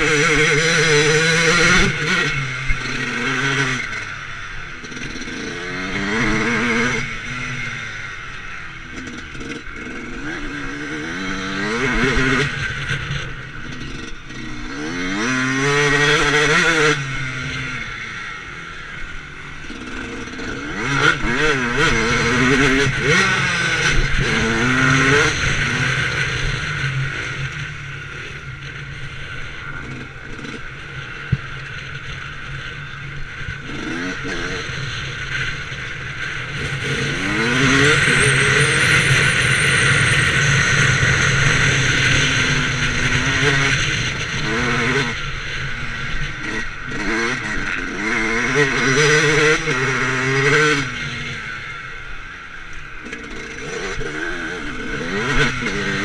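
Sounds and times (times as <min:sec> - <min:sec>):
motocross engine revving: 0:00.0 - 0:52.2, 0:53.0 - 0:56.0.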